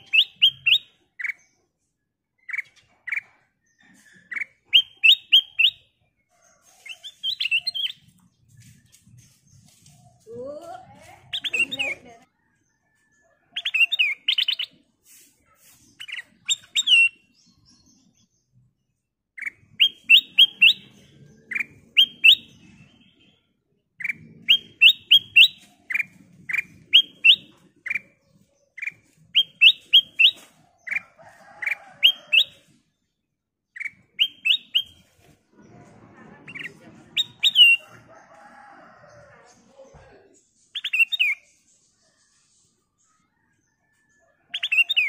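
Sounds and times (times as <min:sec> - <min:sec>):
bird chirping: 0:00.0 - 0:12.2, 0:13.0 - 0:32.8, 0:33.4 - 0:38.0, 0:39.6 - 0:43.2, 0:43.8 - 0:45.0.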